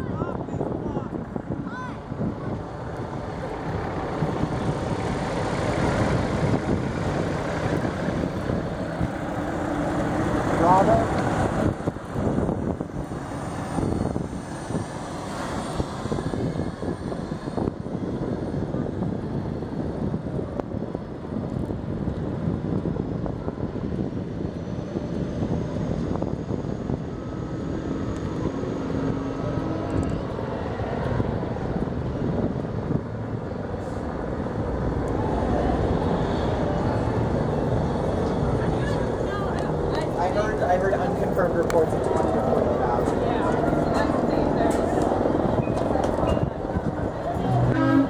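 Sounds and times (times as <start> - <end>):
road rumble: 0.0 - 48.0
wind on microphone: 0.0 - 48.0.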